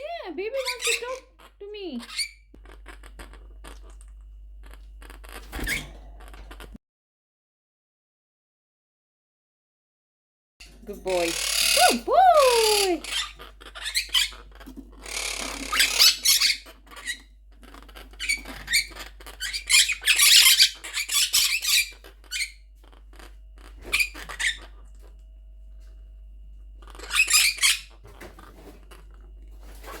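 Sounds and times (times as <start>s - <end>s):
parrots squawking and chattering: 0.0s - 6.8s, 10.6s - 26.0s, 26.6s - 30.0s.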